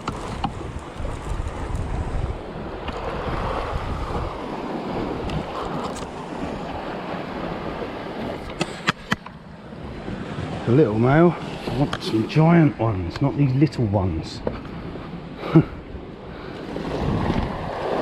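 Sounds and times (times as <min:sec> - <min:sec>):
sea washing against rocks: 0:00.0 - 0:15.2, 0:16.3 - 0:18.0
wind buffeting microphone: 0:00.0 - 0:18.0.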